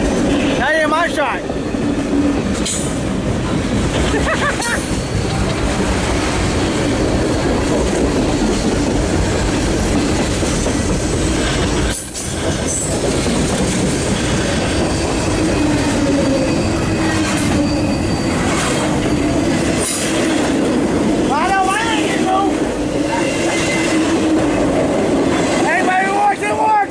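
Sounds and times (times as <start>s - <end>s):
freight train wheels on track: 0.0s - 26.9s.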